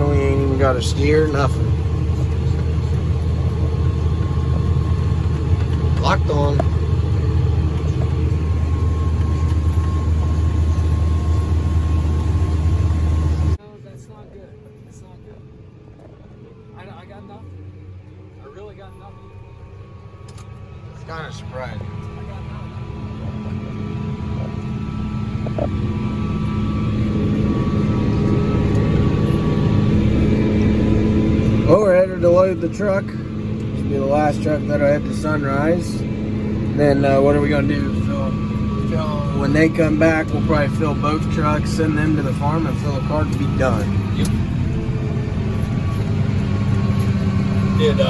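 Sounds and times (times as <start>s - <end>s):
farm machine diesel engine: 0.0s - 48.0s
thin steady whine: 0.0s - 48.0s.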